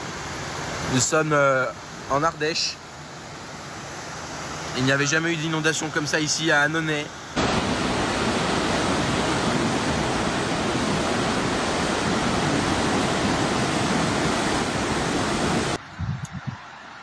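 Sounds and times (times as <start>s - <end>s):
river rushing: 0.0s - 15.8s.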